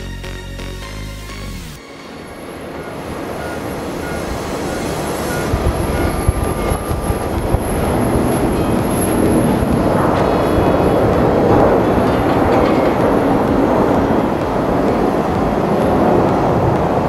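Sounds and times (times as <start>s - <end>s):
background music: 0.0s - 17.0s
jet engines roaring at takeoff: 1.8s - 17.0s.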